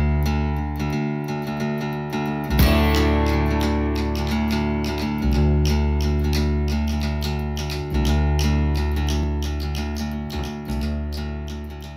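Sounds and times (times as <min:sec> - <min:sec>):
guitar instrumental with bass line: 0:00.0 - 0:11.9.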